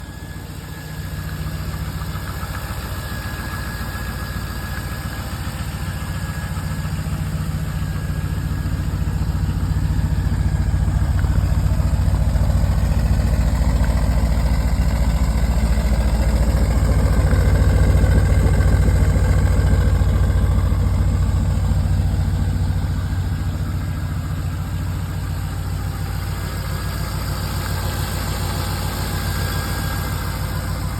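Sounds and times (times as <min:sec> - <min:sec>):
car engine idling through exhaust: 0:00.0 - 0:30.9.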